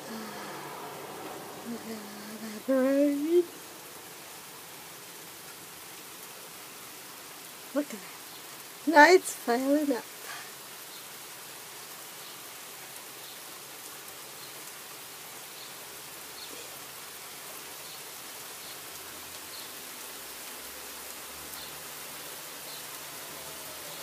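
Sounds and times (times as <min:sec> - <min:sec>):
rain falling on asphalt: 0:00.0 - 0:24.0
ticks of raindrops: 0:00.0 - 0:24.0.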